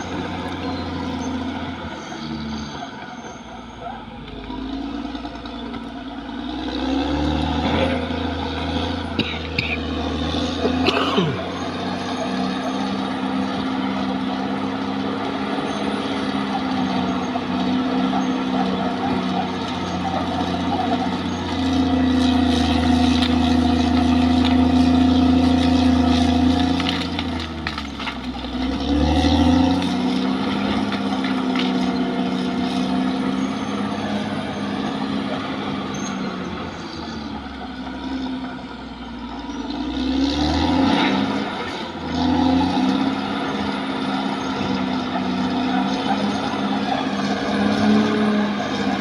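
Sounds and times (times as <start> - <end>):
bulldozer diesel engine droning: 0.0 - 49.0.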